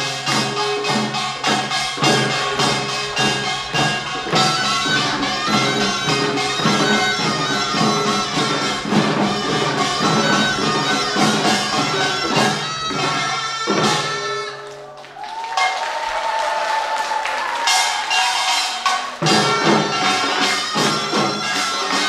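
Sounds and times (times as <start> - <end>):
drums and gongs beating: 0.0 - 22.0
wind instrument melody: 0.0 - 22.0.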